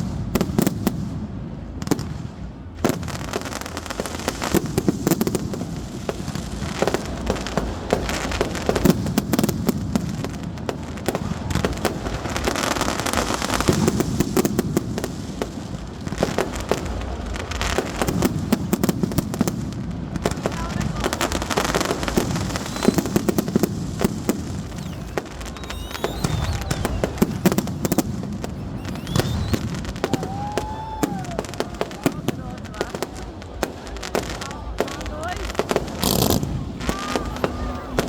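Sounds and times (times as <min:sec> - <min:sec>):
bonfire popping and crackling: 0:00.0 - 0:38.0
fire rumbling: 0:00.0 - 0:38.0.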